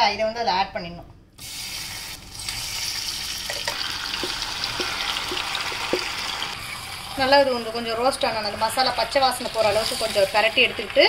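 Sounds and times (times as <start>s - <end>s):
food sizzling in hot oil: 1.4s - 11.0s.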